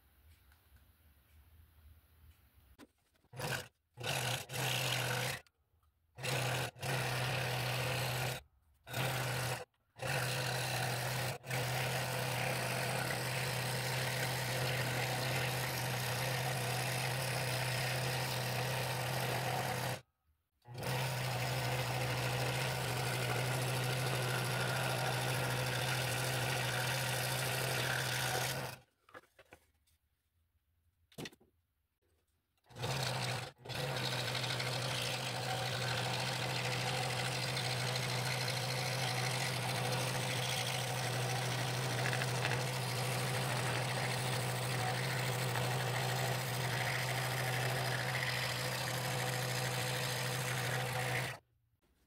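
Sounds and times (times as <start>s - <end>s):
scroll saw cutting wood: 2.8s - 5.5s, 6.2s - 20.0s, 20.6s - 29.3s, 32.6s - 51.4s.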